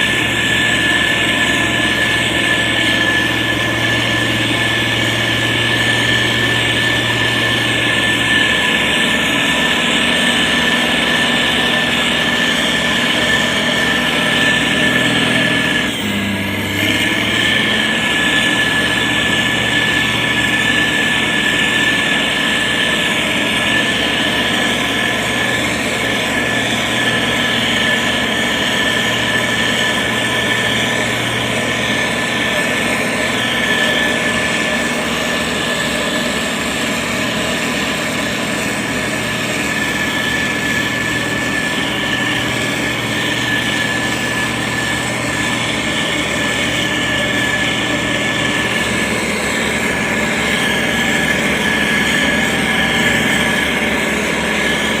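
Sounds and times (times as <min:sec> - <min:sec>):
diesel engine running: 0:00.0 - 0:55.0
high whine: 0:00.0 - 0:55.0.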